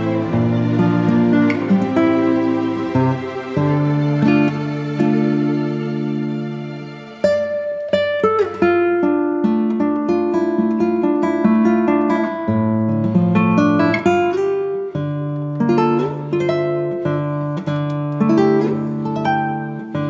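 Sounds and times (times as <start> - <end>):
acoustic guitar: 0.0 - 20.0.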